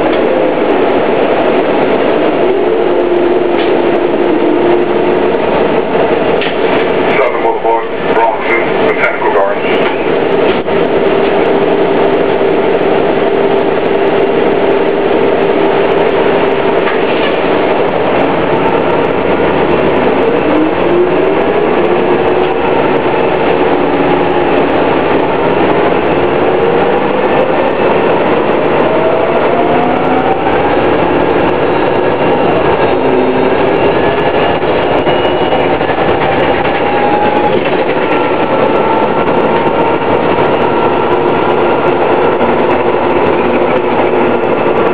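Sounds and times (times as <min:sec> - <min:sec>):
bus engine with rising whine: 0:00.0 - 0:44.9.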